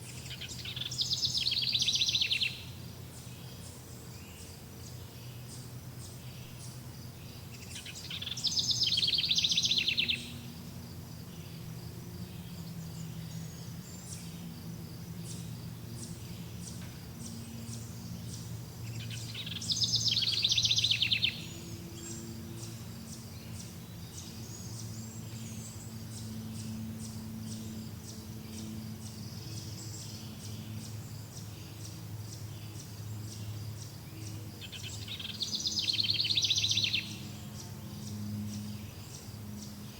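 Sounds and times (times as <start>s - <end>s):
songbird trilling: 0.0s - 10.6s, 15.2s - 39.9s
low steady hum: 0.0s - 39.9s.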